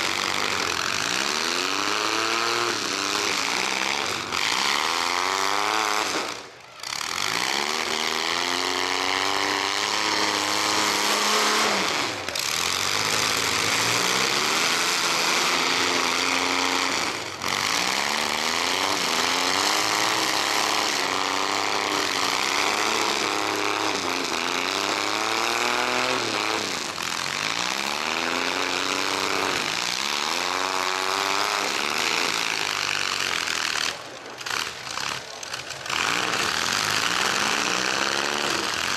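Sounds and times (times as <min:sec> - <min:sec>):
engines revving: 0:00.0 - 0:38.9.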